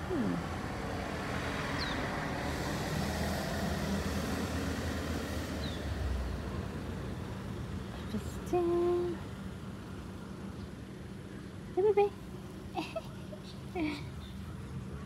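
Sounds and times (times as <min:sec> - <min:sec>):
passing vehicle rumble: 0:00.0 - 0:12.7.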